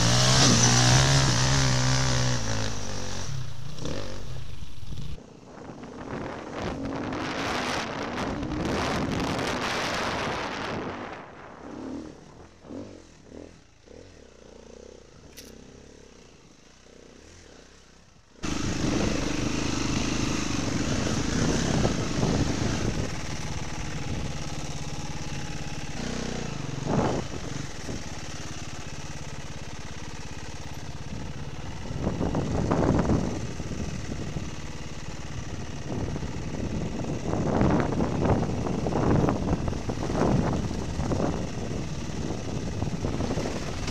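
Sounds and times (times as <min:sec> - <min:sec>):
dirt bike engine revving: 0:00.0 - 0:05.2, 0:05.9 - 0:43.9.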